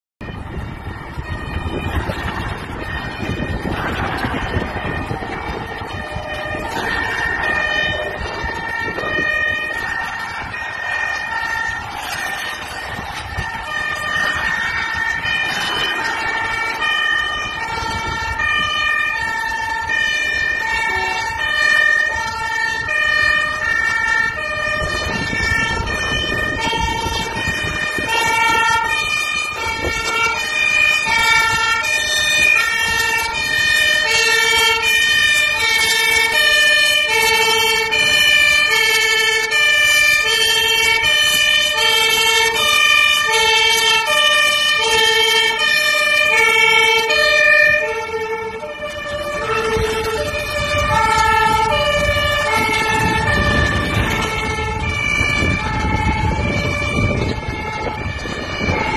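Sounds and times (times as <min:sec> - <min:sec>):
fire engine two-tone siren: 0:00.2 - 0:58.9.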